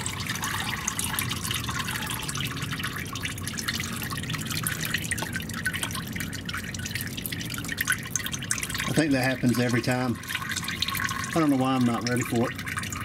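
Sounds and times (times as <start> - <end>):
oil dripping into plastic pan: 0.0 - 13.0.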